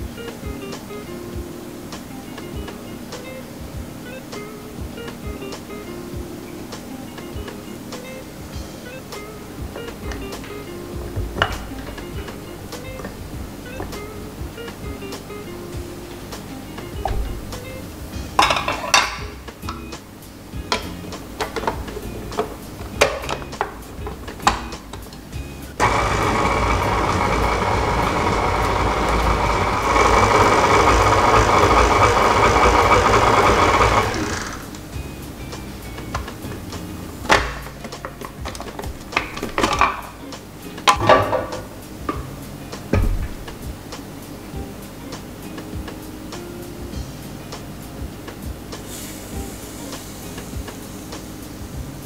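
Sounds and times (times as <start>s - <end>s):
upbeat background music: 0.0s - 52.0s.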